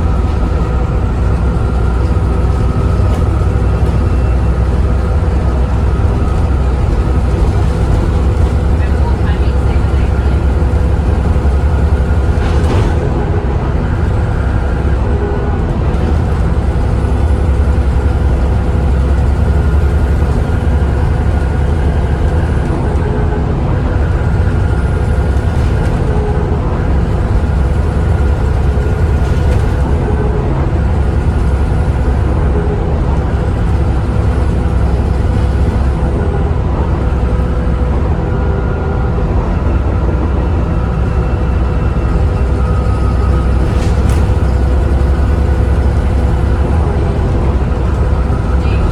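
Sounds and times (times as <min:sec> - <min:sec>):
bus engine running: 0:00.0 - 0:48.9
cooling fans whining: 0:00.0 - 0:48.9.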